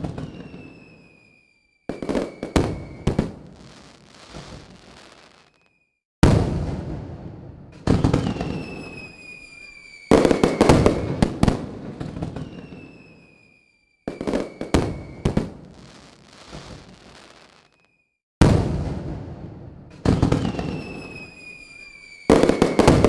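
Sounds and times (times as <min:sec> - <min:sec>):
falling firework whistle: 0:00.0 - 0:06.4, 0:07.8 - 0:18.2, 0:20.0 - 0:23.0
fireworks bangs and crackle: 0:00.0 - 0:23.0.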